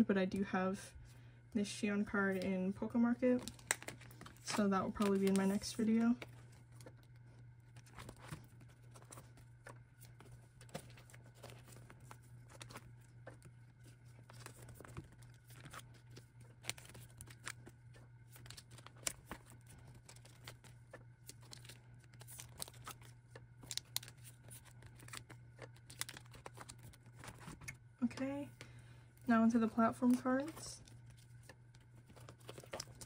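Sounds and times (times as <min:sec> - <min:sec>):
low steady hum: 0:00.0 - 0:33.0
plastic sleeves crinkling: 0:02.2 - 0:33.0.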